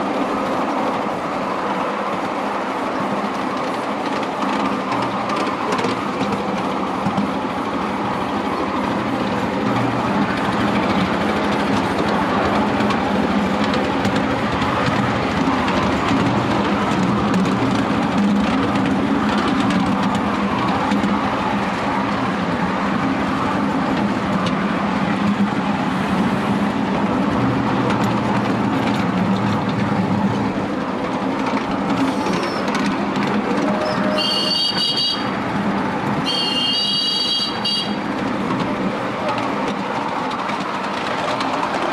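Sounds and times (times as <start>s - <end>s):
miniature train rumbling on track: 0.0s - 41.9s.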